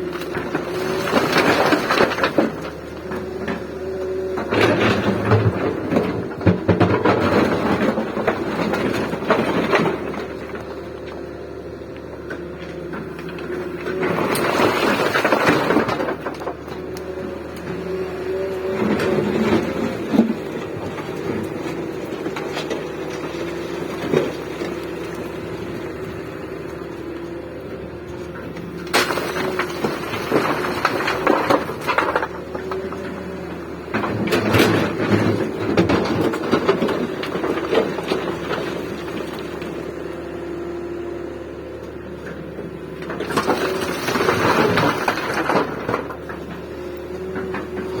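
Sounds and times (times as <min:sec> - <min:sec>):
bucket crunching and scraping: 0:00.0 - 0:11.4, 0:12.2 - 0:40.0, 0:42.7 - 0:48.0
diesel engine droning: 0:00.0 - 0:48.0.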